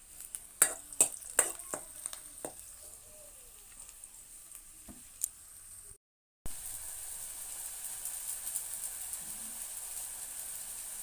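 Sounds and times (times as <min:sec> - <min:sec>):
faint sizzle: 0:00.0 - 0:11.0.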